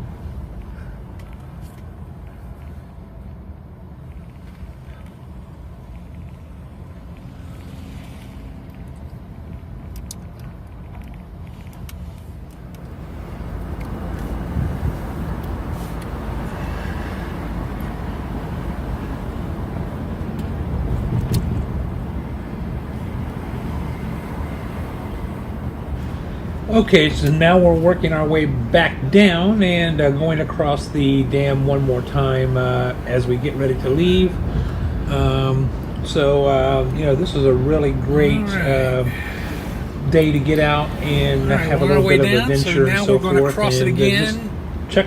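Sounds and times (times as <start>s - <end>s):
car engine and tyres rumbling: 0.0s - 45.0s
road and wind noise: 0.0s - 45.0s.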